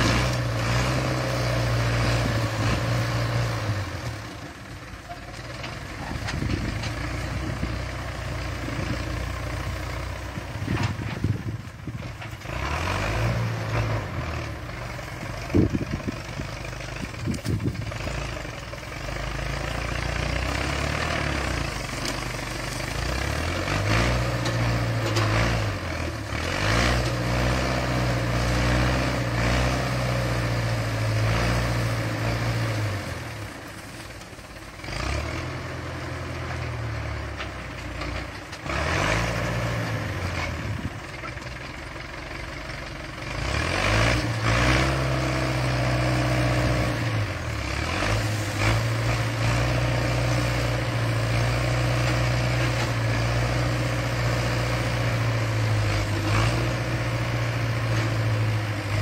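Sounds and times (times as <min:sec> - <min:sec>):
diesel tractor engine revving: 0:00.0 - 0:59.0.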